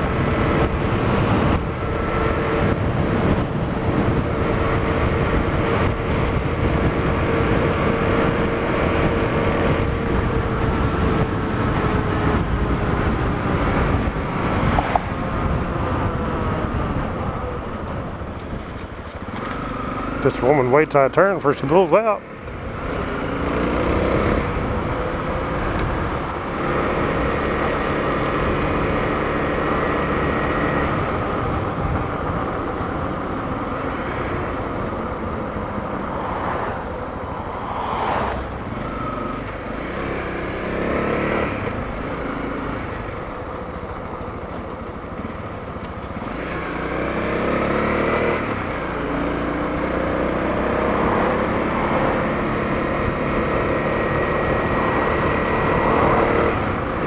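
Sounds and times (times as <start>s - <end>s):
motorcycle engine running: 0.0s - 37.6s, 38.5s - 57.0s.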